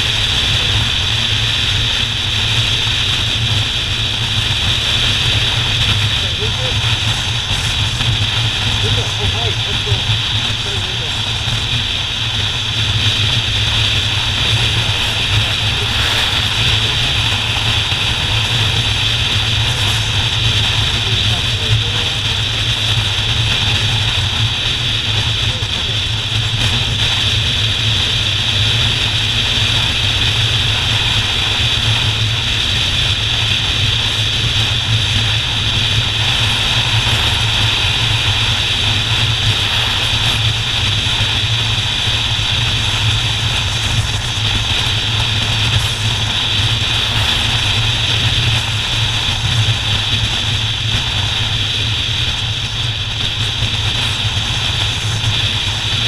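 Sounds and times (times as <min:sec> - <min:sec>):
motorcycle engine cruising: 0:00.0 - 0:56.0
road noise: 0:00.0 - 0:56.0
wind noise: 0:00.0 - 0:56.0.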